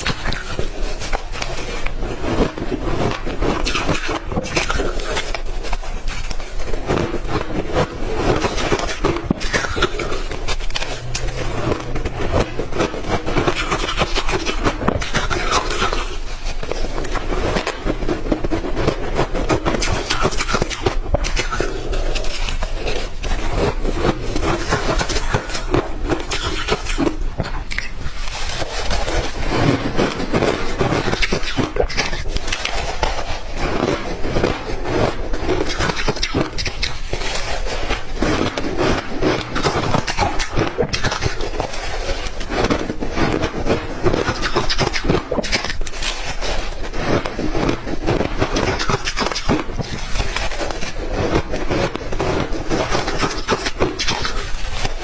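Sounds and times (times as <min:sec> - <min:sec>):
ice crunched between teeth: 0:00.0 - 0:55.0.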